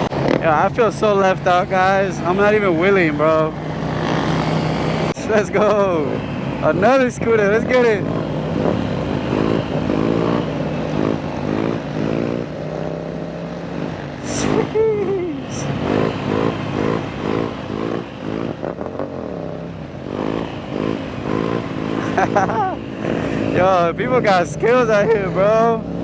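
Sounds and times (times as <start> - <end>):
engine running steadily: 0.0 - 26.0
motorbike engine revving: 0.0 - 26.0.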